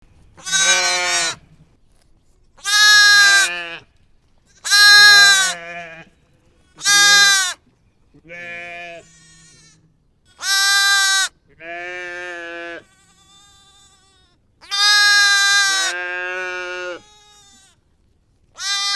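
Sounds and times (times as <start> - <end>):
sheep bleating: 0.4 - 1.4, 2.6 - 3.9, 4.6 - 7.6, 8.2 - 17.8, 18.6 - 18.9.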